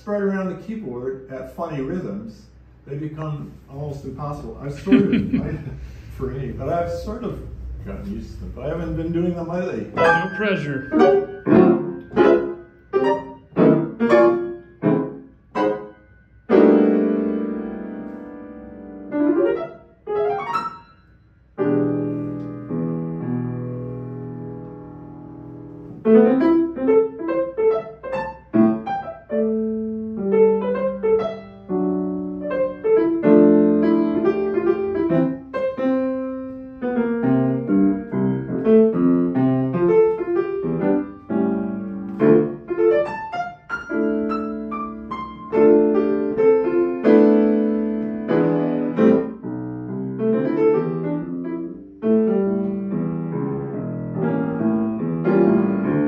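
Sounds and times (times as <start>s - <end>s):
grand piano chords: 0.0s - 56.0s.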